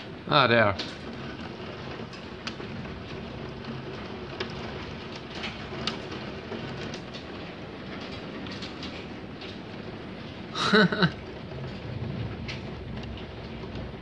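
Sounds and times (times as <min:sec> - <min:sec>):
hailstones clicking on hard surfaces: 0:00.0 - 0:14.0
heavy rain and hail: 0:00.0 - 0:14.0.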